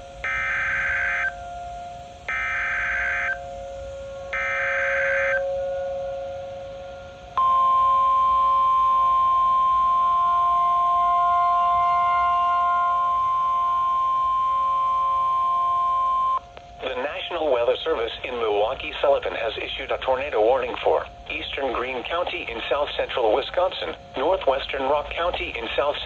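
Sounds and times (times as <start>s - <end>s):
digital data bursts: 0.0s - 1.4s, 2.3s - 3.5s, 4.3s - 5.5s, 7.4s - 26.0s
steady warning alarm tone: 0.0s - 26.0s.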